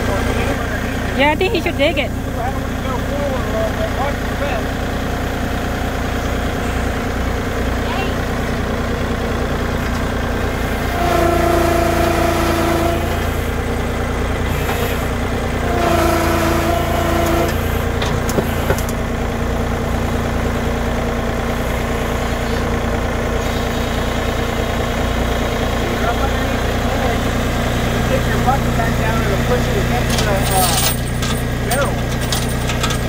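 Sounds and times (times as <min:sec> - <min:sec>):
hydraulic whine: 0:00.0 - 0:33.0
tractor engine idling: 0:00.0 - 0:33.0.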